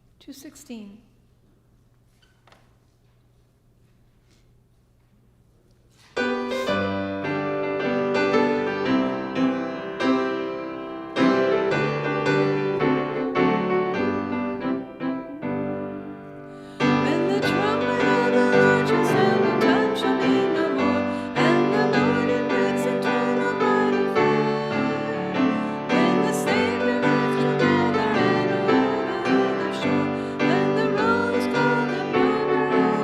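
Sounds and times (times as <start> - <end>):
keyboard playing hymn chords: 6.2 - 33.0.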